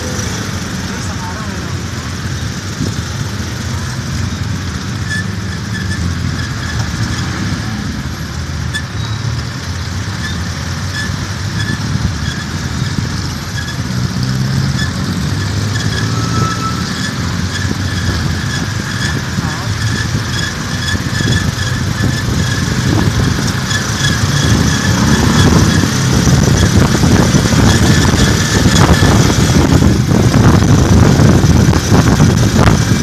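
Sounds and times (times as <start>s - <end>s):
motorcycle engine running: 0.0s - 33.0s
road and traffic noise: 0.0s - 33.0s.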